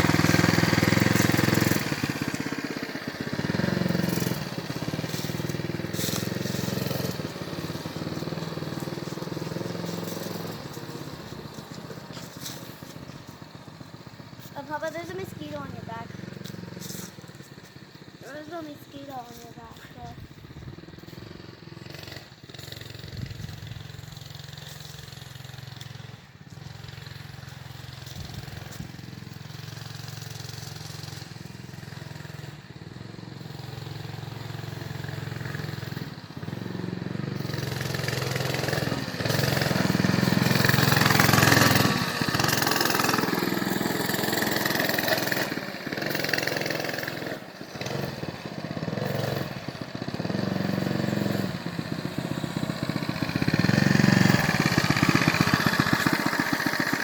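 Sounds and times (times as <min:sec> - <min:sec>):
minibike engine running: 0:00.0 - 0:57.0.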